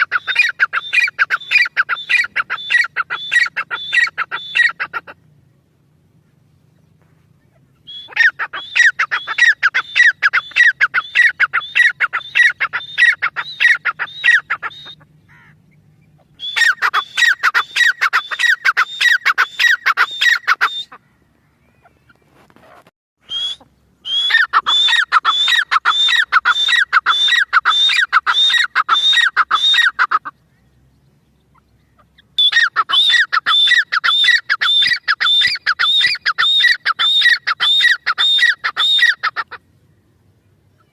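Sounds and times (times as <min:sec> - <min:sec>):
partridge calling: 0:00.0 - 0:05.3, 0:06.5 - 0:39.9.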